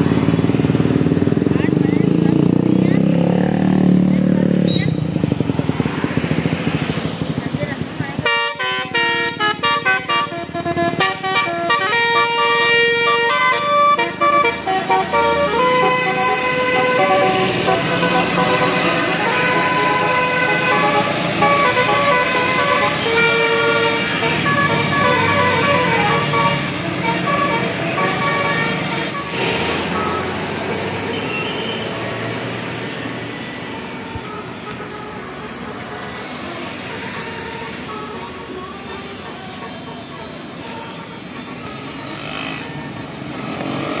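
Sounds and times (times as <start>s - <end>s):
road traffic noise: 0.0s - 44.0s
vehicle horns honking: 8.2s - 44.0s.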